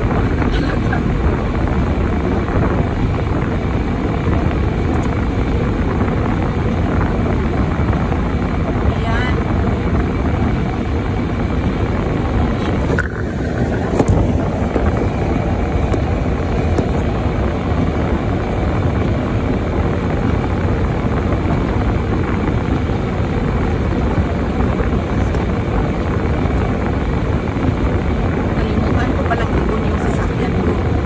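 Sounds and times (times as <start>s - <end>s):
car driving on snow: 0.0s - 31.0s.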